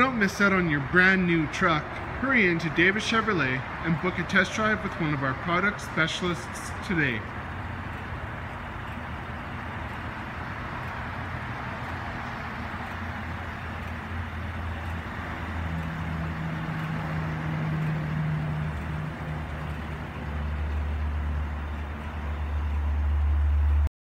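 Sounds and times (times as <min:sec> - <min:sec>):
pickup engine idling: 0:00.0 - 0:23.9
rushing background noise: 0:00.0 - 0:23.9.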